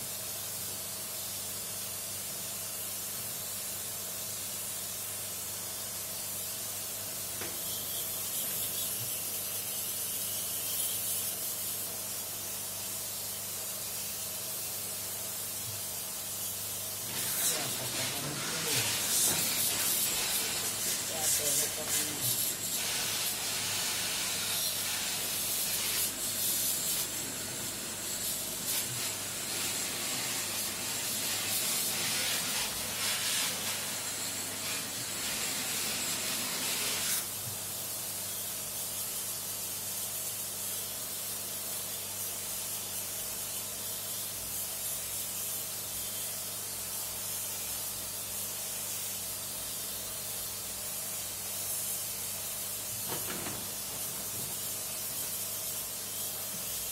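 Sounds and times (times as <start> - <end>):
water spraying with a hiss: 0.0 - 56.9.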